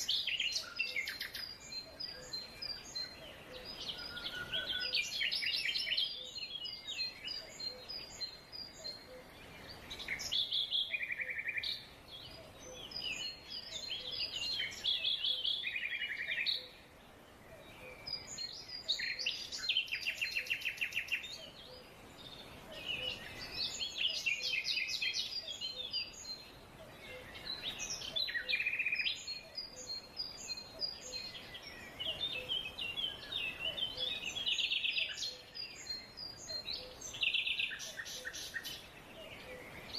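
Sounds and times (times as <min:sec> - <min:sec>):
forest bird chorus: 0:00.0 - 0:39.9.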